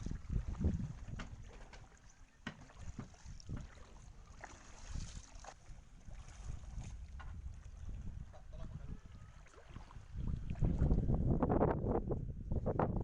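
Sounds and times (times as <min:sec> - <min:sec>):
wind buffeting microphone: 0:00.0 - 0:02.0, 0:02.8 - 0:13.0.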